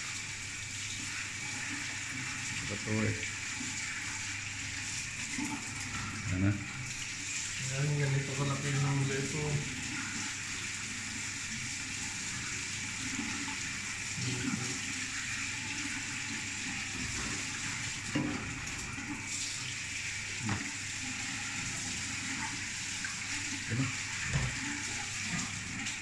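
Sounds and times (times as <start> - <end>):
steady watery hiss: 0.0 - 26.0
water sloshing and dripping: 0.0 - 26.0.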